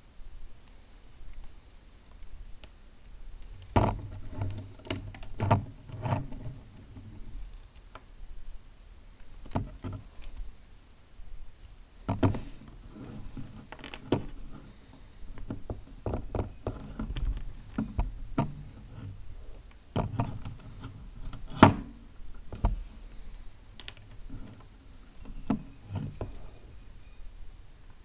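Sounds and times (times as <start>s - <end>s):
plastic parts clicking and rubbing: 0.6s - 8.1s, 12.0s - 27.0s.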